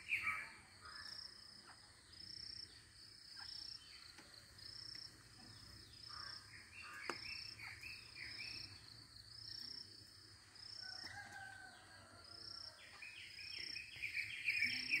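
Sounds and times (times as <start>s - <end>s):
birdsong: 0.0s - 15.0s.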